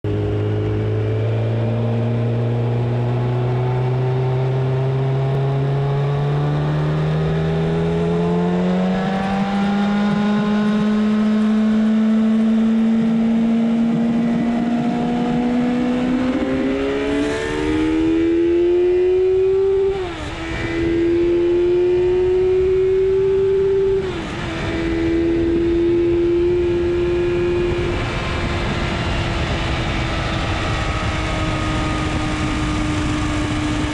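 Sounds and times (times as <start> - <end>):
motorcycle engine accelerating: 0.0 - 33.9
wind noise on microphone: 3.9 - 33.9.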